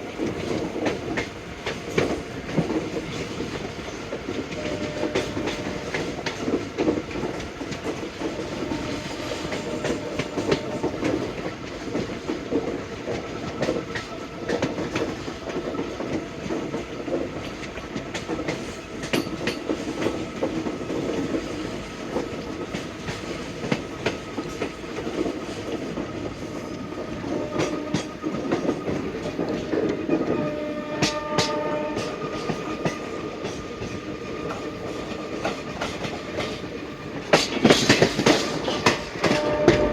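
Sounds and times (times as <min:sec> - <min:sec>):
clickety-clack of train wheels: 0:00.0 - 0:39.9
train rumble: 0:00.0 - 0:39.9.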